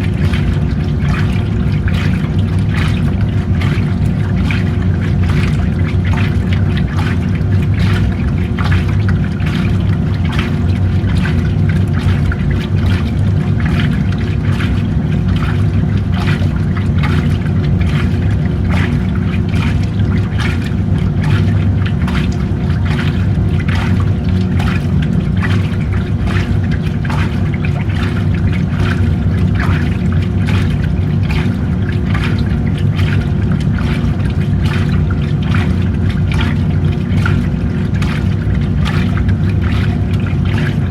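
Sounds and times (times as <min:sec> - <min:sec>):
washing machine motor hum: 0:00.0 - 0:40.9
water sloshing in tub: 0:00.0 - 0:40.9.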